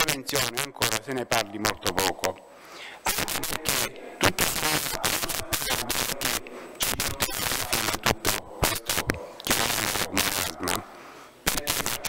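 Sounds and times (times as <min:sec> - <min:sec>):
crackling static: 0:00.0 - 0:12.0.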